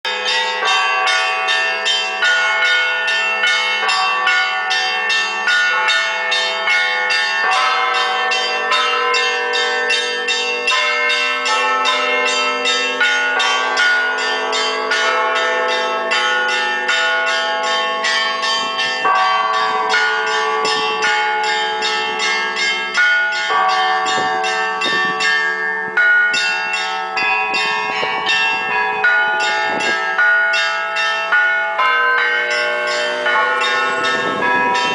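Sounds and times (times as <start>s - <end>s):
large deep bells ringing: 0.0s - 34.9s.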